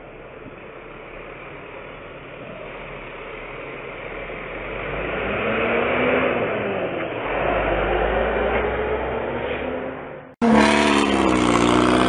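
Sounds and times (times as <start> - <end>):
traffic engine and road noise: 0.0 - 12.0.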